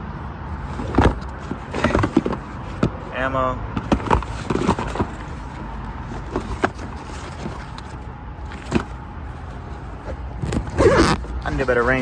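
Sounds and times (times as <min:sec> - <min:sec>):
gear knocks and clicks: 0:00.7 - 0:03.0, 0:03.8 - 0:12.0.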